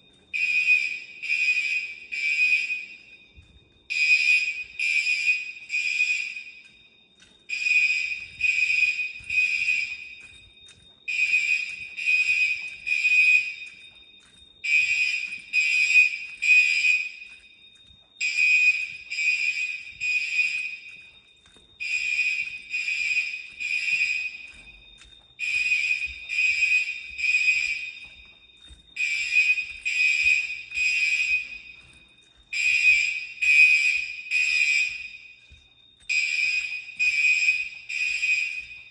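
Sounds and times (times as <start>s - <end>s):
fire alarm bell ringing: 0.0s - 38.9s.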